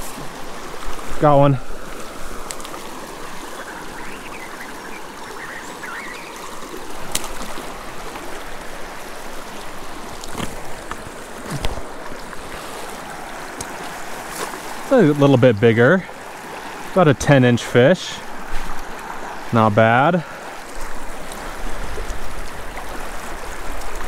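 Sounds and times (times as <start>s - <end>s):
creek flowing over rocks: 0.0s - 24.0s.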